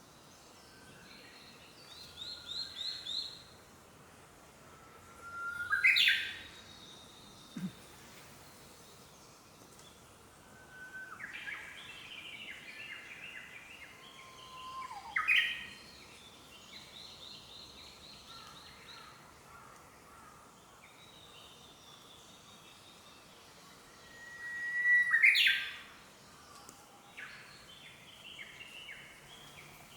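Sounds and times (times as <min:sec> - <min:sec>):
songbirds singing: 0:05.0 - 0:29.9.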